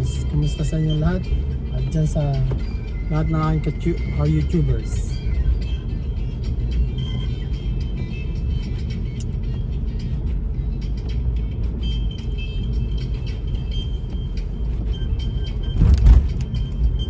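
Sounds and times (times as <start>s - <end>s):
car driving engine and tyre noise: 0.0s - 17.0s.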